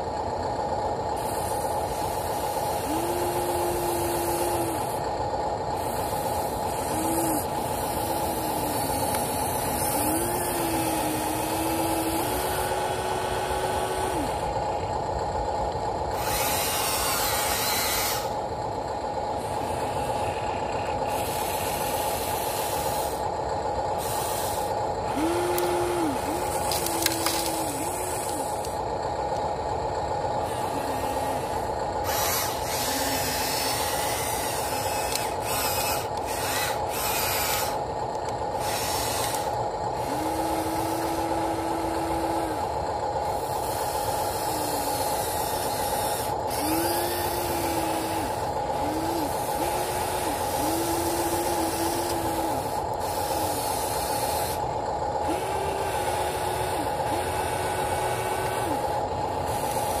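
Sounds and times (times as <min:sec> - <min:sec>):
small electric motors whining: 0:00.0 - 1:00.0
steady hum and hiss: 0:00.0 - 1:00.0.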